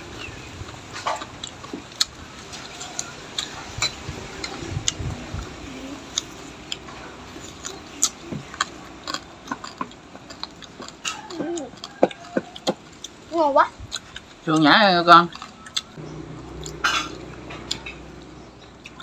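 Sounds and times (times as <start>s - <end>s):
people chewing: 0.0s - 19.0s.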